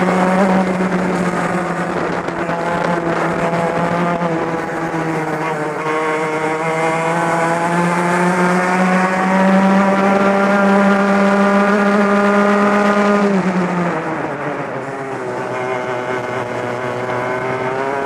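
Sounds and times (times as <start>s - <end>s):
kart engine at high revs: 0.0s - 18.0s.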